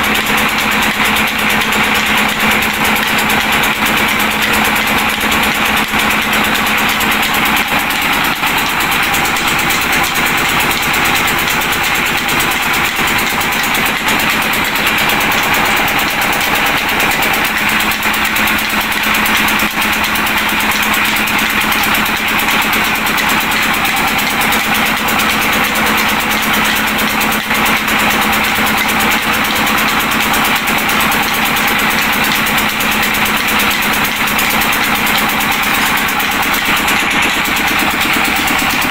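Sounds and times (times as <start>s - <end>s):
flour mill droning: 0.0s - 38.9s.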